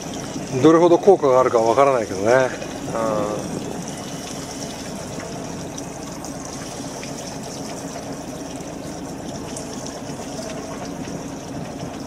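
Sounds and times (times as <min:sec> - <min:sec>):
boat engine humming: 0:00.0 - 0:12.0
running water rushing: 0:00.0 - 0:12.0.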